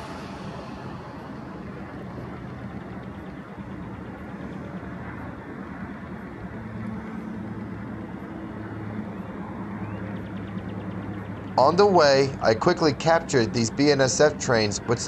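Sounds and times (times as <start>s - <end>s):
diesel locomotive engines droning: 0.0s - 15.0s
train rumble: 0.0s - 15.0s.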